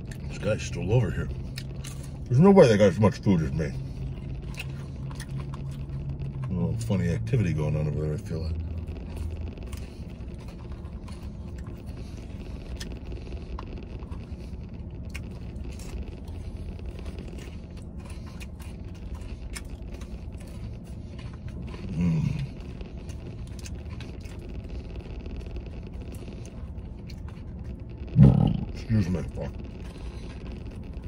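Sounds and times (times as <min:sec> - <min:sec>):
low hum in truck cab: 0:00.0 - 0:31.0
low throaty sound: 0:00.0 - 0:31.0
person chewing: 0:00.0 - 0:31.0.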